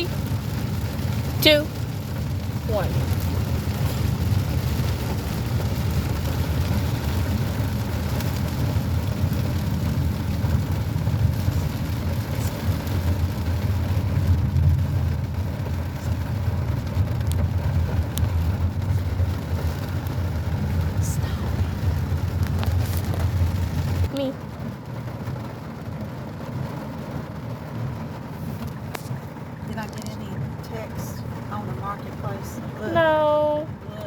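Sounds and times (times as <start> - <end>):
car driving rumble: 0.0 - 34.0
rain hissing on car: 0.0 - 34.0.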